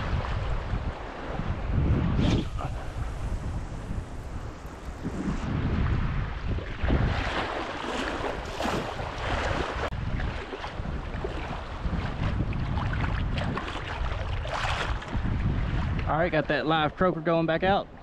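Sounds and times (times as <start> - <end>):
surf water sloshing: 0.0 - 17.0
wind buffeting microphone: 0.0 - 18.0.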